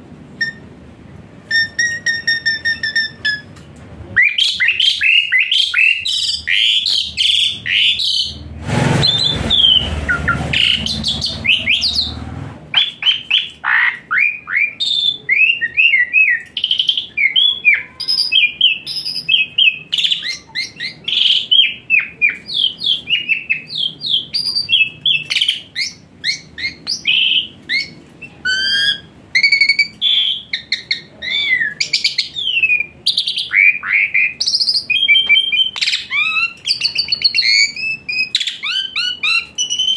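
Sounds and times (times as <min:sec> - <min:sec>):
starling singing: 0:00.4 - 0:00.8, 0:01.5 - 0:03.6, 0:04.2 - 0:39.9.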